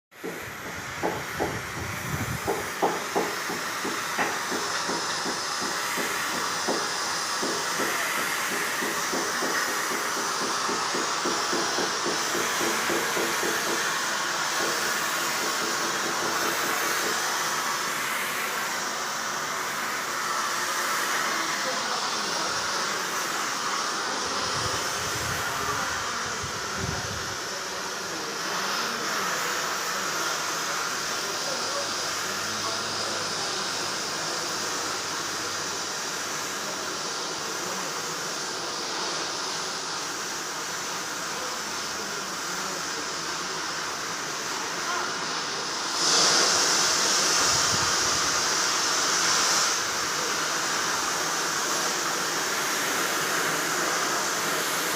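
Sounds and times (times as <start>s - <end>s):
arc welding crackling hiss: 0.1s - 54.9s.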